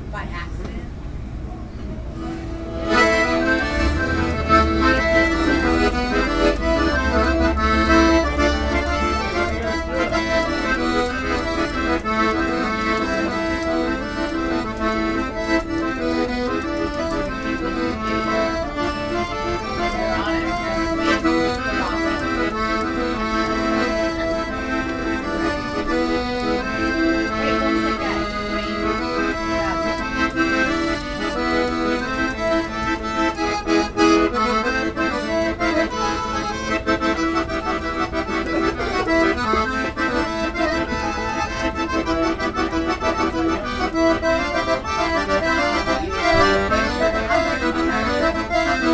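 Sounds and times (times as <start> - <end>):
accordion playing a tune: 0.0 - 48.9.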